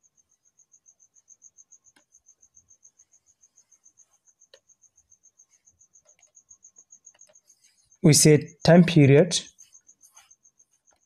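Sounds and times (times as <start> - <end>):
faint cricket chirping: 0.0 - 11.0.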